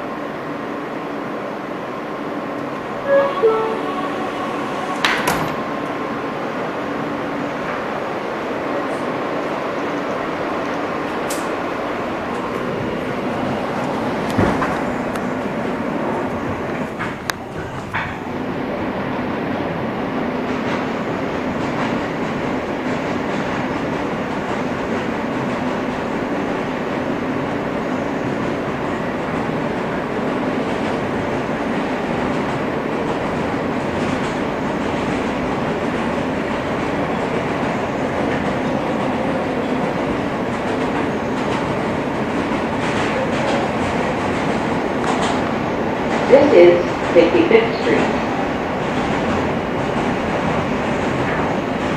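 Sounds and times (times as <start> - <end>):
wheels rumbling on rail: 0.0 - 51.9.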